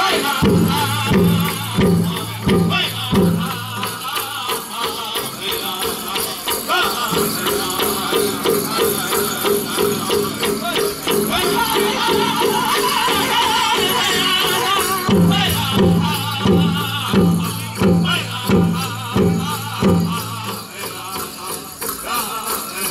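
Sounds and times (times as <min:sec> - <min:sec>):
heavy drum strokes: 0:00.0 - 0:22.4
high wavering voices singing: 0:00.0 - 0:22.9.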